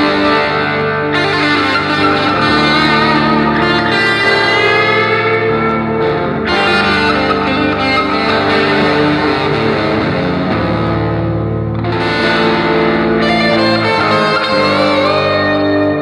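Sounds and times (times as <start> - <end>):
guitar music: 0.0 - 16.0.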